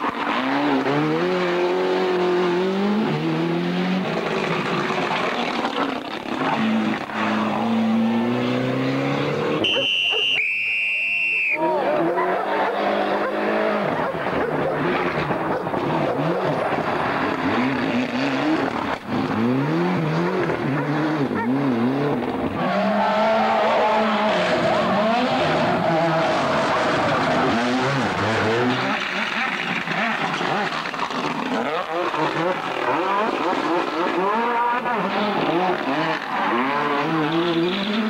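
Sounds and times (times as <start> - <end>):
rally car engines revving: 0.0 - 38.0.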